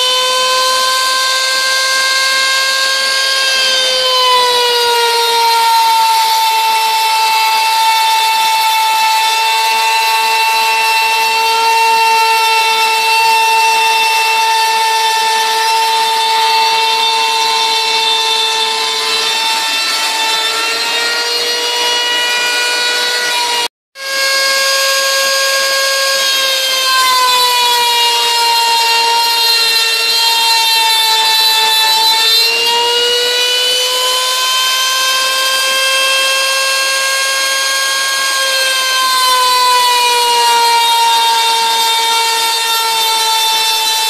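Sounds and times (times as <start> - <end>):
router spindle whine milling: 0.0 - 44.0.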